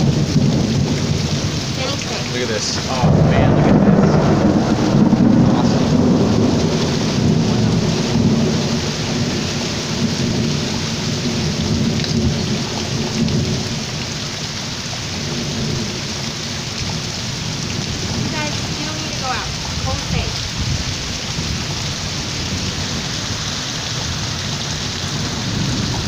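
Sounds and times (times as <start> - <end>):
thunder rolling: 0.0 - 14.2, 15.1 - 26.0
steady rain: 0.0 - 26.0.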